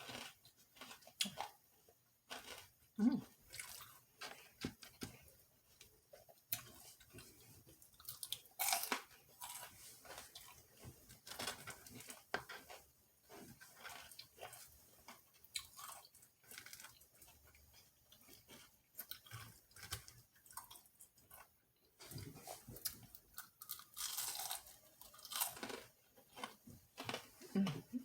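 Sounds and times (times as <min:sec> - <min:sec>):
chewing crunchy food: 0:00.0 - 0:27.9.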